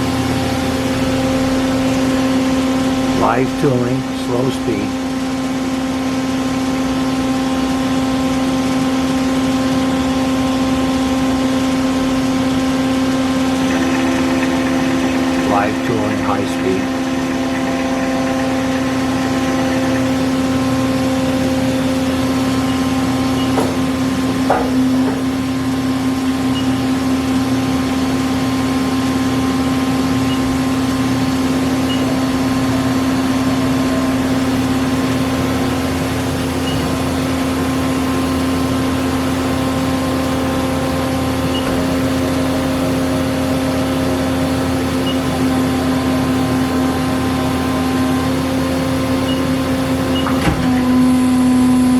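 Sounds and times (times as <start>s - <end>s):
lathe spindle humming: 0.0s - 51.9s.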